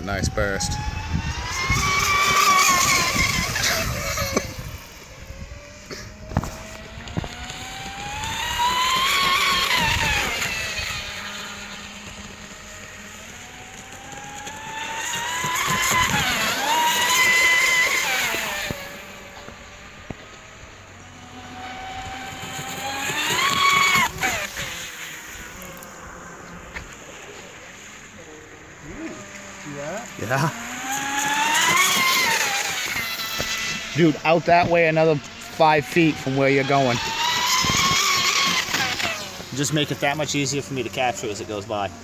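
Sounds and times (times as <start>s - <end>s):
speedboat motor whine: 0.0s - 42.0s.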